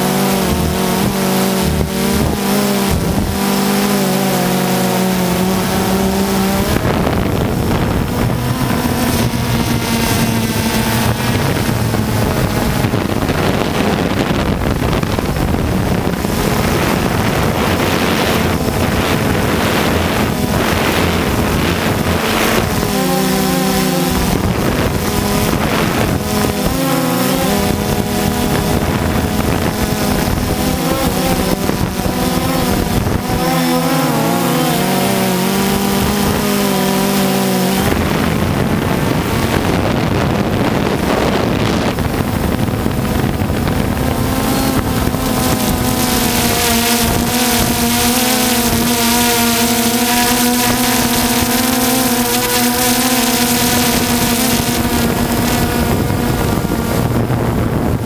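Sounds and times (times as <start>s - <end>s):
drone propellers buzzing: 0.0s - 58.0s
wind noise on microphone: 0.0s - 58.0s.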